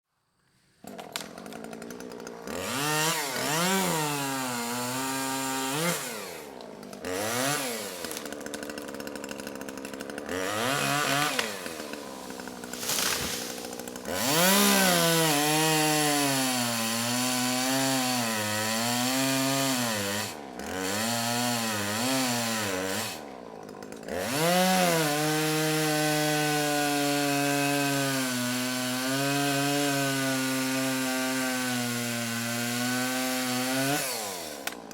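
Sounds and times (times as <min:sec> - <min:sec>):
two-stroke chainsaw revving: 0:00.8 - 0:34.9.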